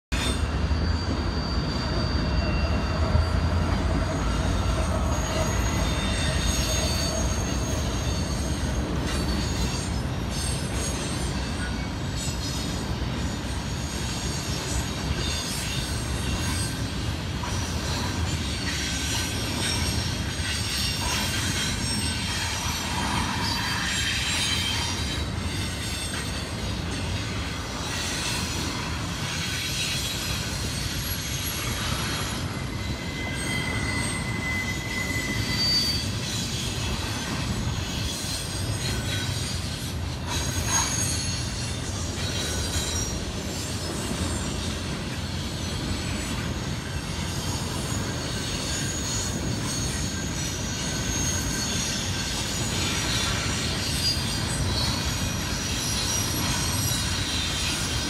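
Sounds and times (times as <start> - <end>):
high wheel squeal: 0.1 - 58.0
train wheels rumbling on rail: 0.1 - 58.0.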